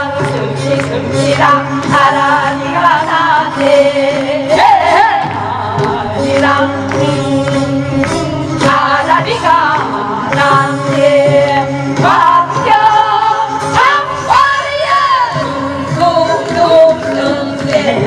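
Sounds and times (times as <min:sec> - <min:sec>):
amplified instrumental accompaniment: 0:00.0 - 0:18.0
women singing with vibrato: 0:00.0 - 0:18.0.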